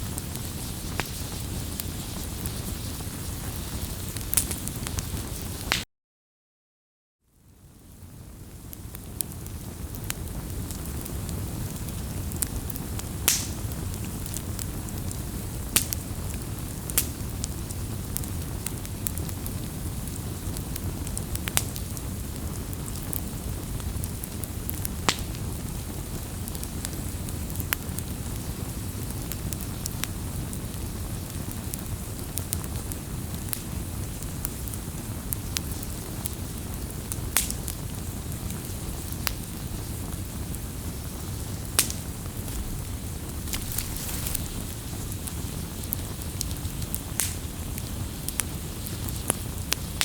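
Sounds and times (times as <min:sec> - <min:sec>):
campfire flames rumbling: 0:00.0 - 0:05.8, 0:07.5 - 0:50.0
fire crackles and pops: 0:00.0 - 0:05.8, 0:07.4 - 0:50.0.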